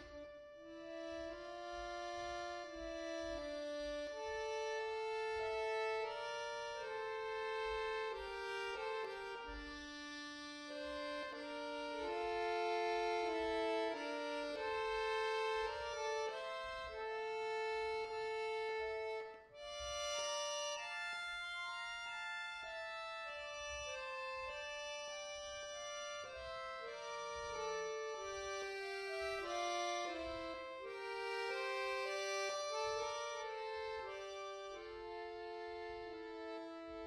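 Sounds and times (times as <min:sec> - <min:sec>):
button accordion playing solo: 0:00.0 - 0:37.0.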